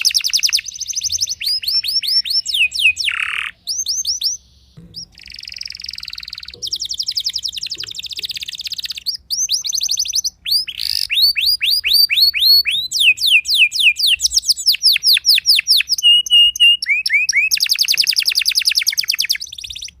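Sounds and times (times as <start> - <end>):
canary singing trills: 0.0 - 20.0.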